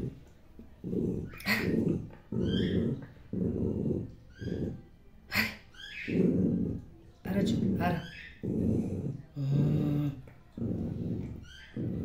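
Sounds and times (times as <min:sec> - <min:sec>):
dog growling: 0:00.8 - 0:12.0.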